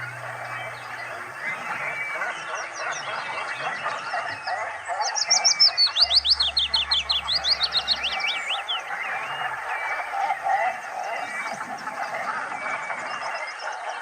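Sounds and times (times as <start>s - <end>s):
steady background hiss: 0.0s - 4.5s, 5.3s - 13.1s
birds chirping: 0.0s - 14.0s.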